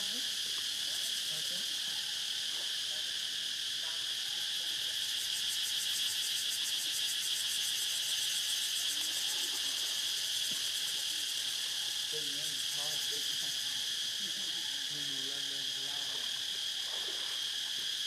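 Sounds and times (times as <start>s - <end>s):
high-pitched insect chorus: 0.0s - 18.0s
fast pulsing insect buzz: 3.4s - 18.0s.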